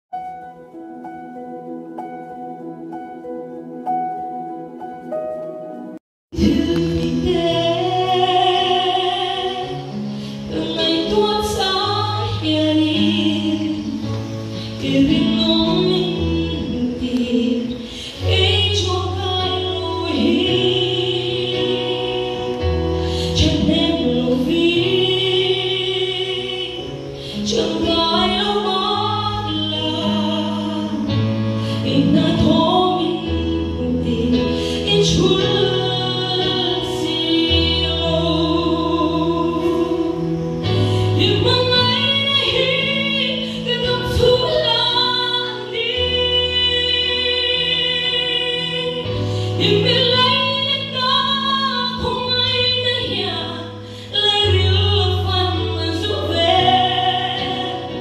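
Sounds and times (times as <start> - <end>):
woman singing into microphone: 6.3 - 58.0.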